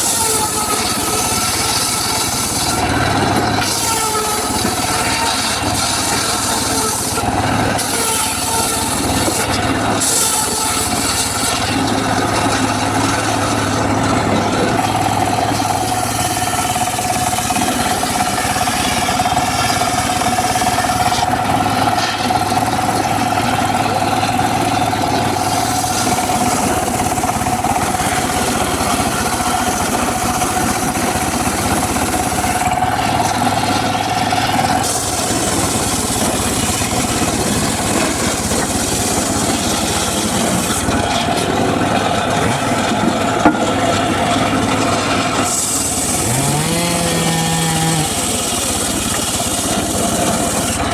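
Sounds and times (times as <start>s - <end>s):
circular saw running: 0.0s - 50.9s.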